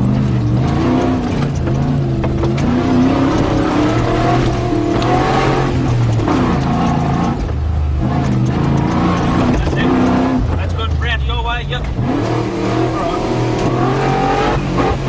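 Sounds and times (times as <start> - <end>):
vehicle engine revving: 0.0 - 15.0
vehicle knocks and rattles: 0.0 - 15.0.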